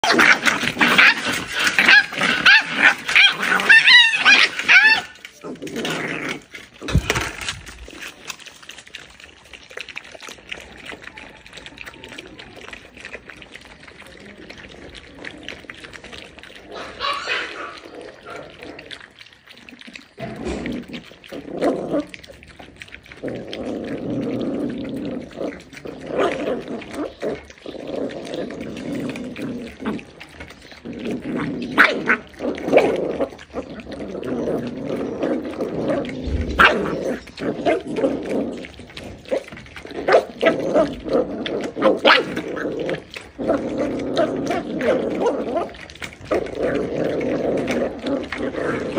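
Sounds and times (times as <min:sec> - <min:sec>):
puppies lapping wet food: 0:00.0 - 0:48.9.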